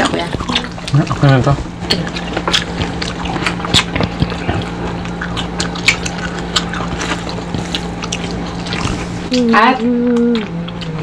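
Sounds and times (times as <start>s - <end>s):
steady low hum: 0.0s - 11.0s
wet mouth clicks chewing: 0.0s - 11.0s.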